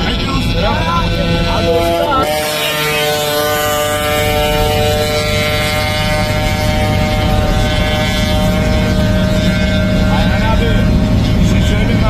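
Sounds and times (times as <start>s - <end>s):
road and wind noise: 0.0s - 12.0s
vehicle engine cruising: 0.0s - 12.0s.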